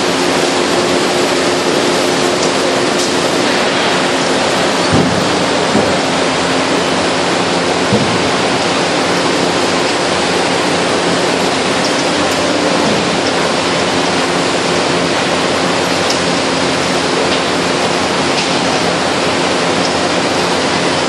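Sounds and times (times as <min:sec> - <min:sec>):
hydraulic baler rushing: 0:00.0 - 0:21.0.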